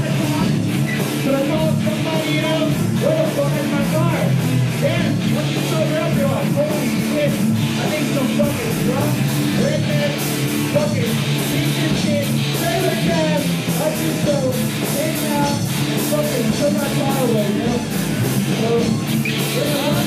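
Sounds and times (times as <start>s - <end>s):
distorted electric guitar: 0.0s - 20.0s
drums: 0.0s - 20.0s
singer yelling into microphone: 0.0s - 20.0s.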